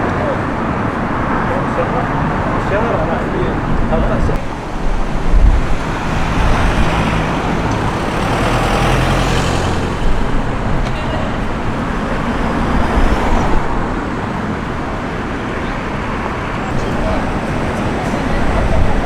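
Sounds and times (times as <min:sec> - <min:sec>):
road noise: 0:00.0 - 0:19.0
vehicles passing: 0:00.0 - 0:19.0.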